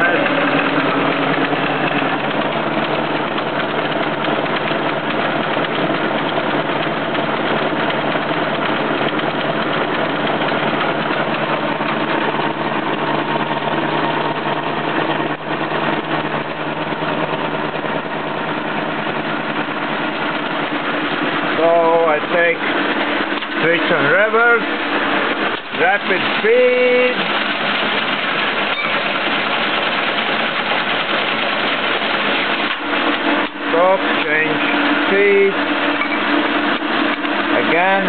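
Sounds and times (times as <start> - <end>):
grinding gear noise: 0.0 - 38.0
milling machine cutting steel: 0.0 - 38.0.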